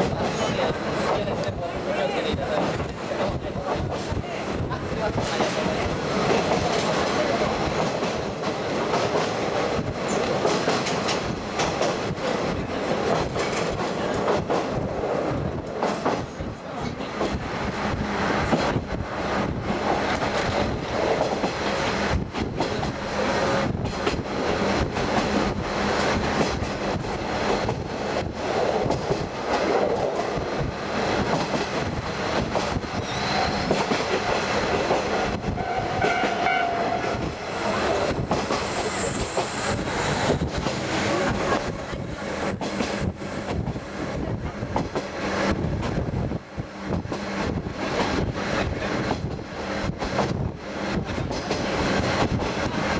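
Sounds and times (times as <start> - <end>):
rail joint clicks: 0.0 - 52.9
rumble of train wheels on rail: 0.0 - 52.9.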